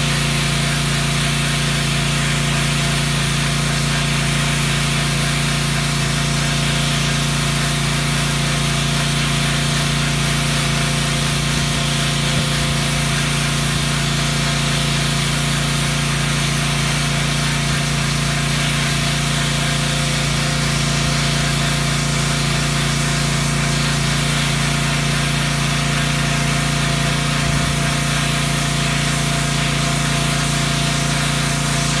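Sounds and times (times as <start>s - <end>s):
pressure washer spraying concrete: 0.0s - 32.0s.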